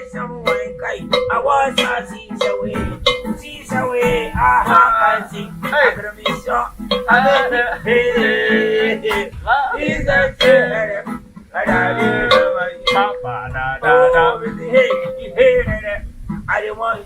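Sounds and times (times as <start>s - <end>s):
man singing: 0.0s - 17.0s
plucked guitar: 0.0s - 17.0s.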